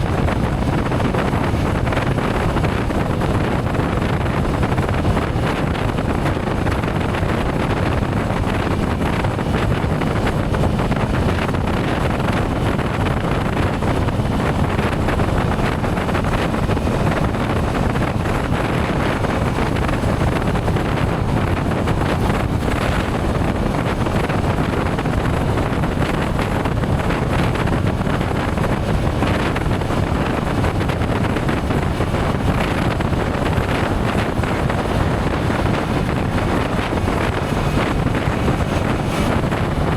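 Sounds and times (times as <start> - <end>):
road noise: 0.0 - 39.9
wind rushing over microphone: 0.0 - 39.9
motorcycle engine: 0.1 - 39.9.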